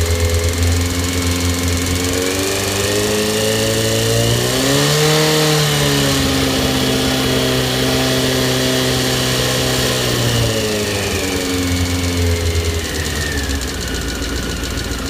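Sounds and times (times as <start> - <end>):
engine knock: 0.0 - 5.2, 5.8 - 15.0
motorcycle engine revving: 0.0 - 15.0.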